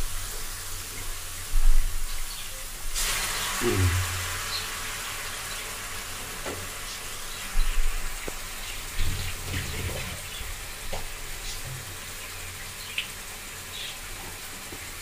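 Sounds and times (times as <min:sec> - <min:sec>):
water sizzling in hot oil: 0:00.0 - 0:15.0.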